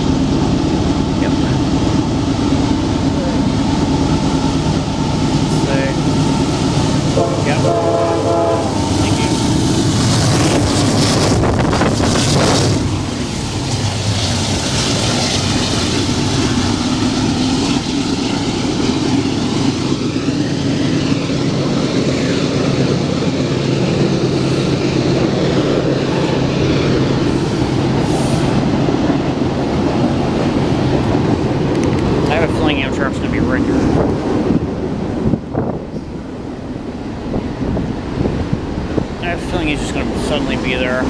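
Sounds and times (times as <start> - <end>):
freight train wheels on rail: 0.0 - 41.0.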